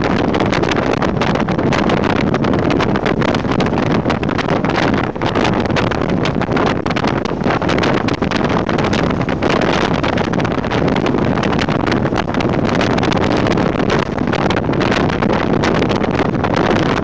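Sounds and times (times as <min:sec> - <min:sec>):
car engine and tyre noise: 0:00.0 - 0:17.0
wind buffeting microphone: 0:00.0 - 0:17.0.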